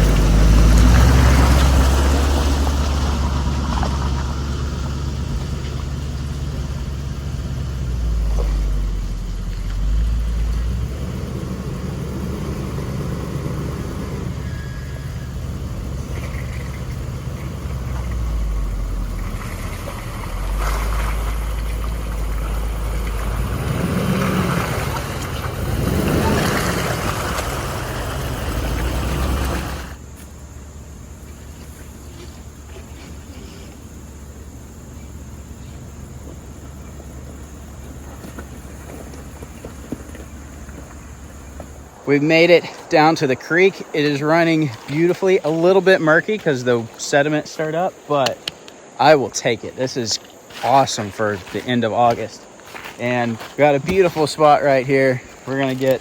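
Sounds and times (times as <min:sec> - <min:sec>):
vehicle engine revving: 0:00.0 - 0:45.6.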